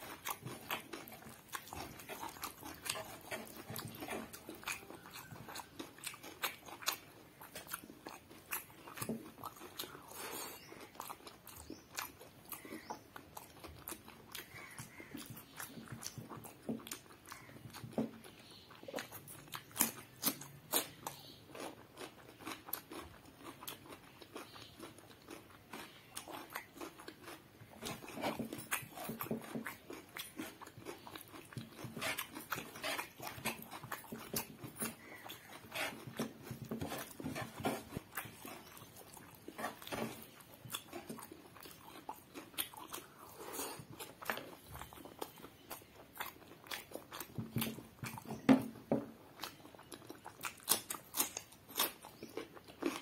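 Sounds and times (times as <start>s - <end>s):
cucumber crunching: 0.0s - 53.0s
person chewing with mouth clicks: 0.0s - 53.0s.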